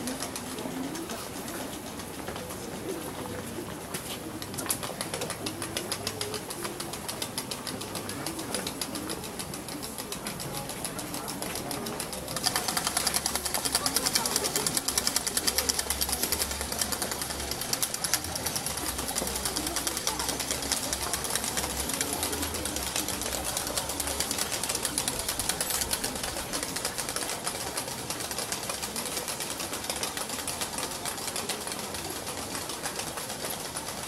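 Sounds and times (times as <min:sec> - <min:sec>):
crowd murmur: 0:00.0 - 0:34.0
fast clicking rattle: 0:04.3 - 0:34.0.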